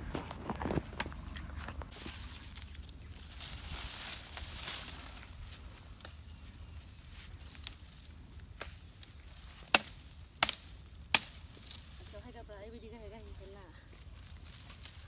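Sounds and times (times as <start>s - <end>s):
twigs snapping: 0.0s - 12.2s, 13.2s - 15.0s
dry brushwood rustling and crackling: 0.0s - 15.0s.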